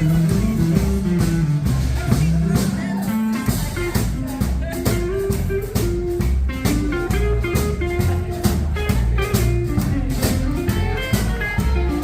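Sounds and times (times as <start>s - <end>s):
bass: 0.0s - 12.0s
drums with steady beat: 0.0s - 12.0s
guitar melody: 0.0s - 12.0s.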